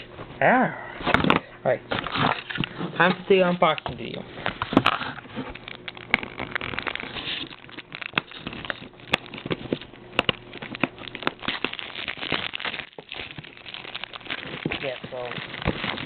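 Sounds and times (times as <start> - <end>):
plastic wrapping crinkling: 2.0 - 16.0.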